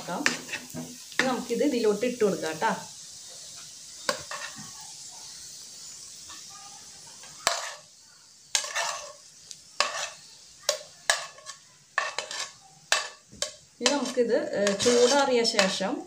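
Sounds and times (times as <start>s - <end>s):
spoon scraping frying pan: 0.0s - 1.5s, 3.3s - 5.0s, 5.8s - 16.0s
nuts sizzling in hot ghee: 0.0s - 16.0s.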